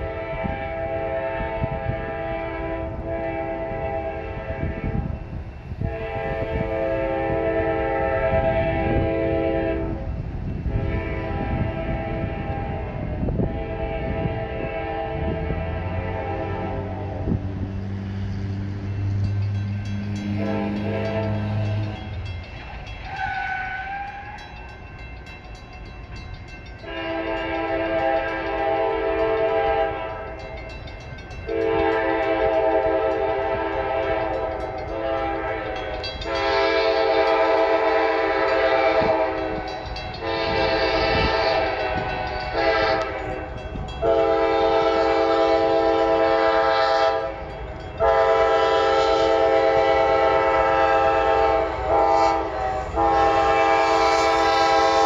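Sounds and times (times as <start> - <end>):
locomotive air horn blasts: 0.0 - 24.6, 26.7 - 30.8, 31.4 - 55.0
train rumble: 0.0 - 55.0.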